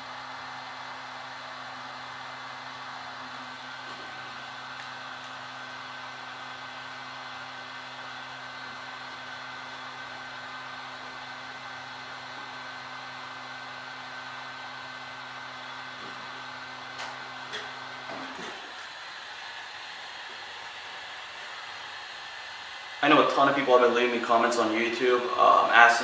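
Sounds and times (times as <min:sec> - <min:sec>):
heat gun running: 0:00.0 - 0:26.0.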